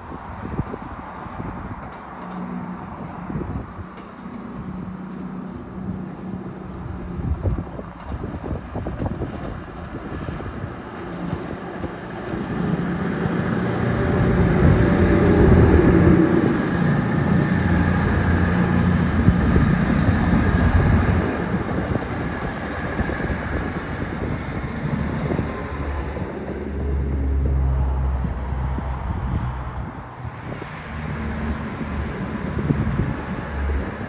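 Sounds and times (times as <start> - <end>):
diesel train engine drone: 0.0 - 34.0.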